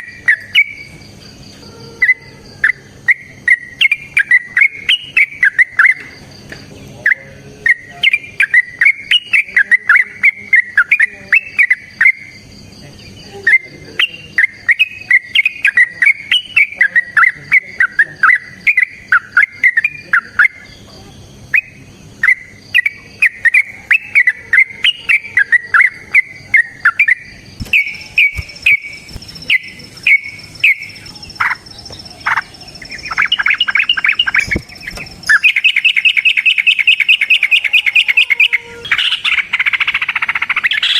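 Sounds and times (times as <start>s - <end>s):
bulbul singing bubbling song: 0.0s - 40.9s.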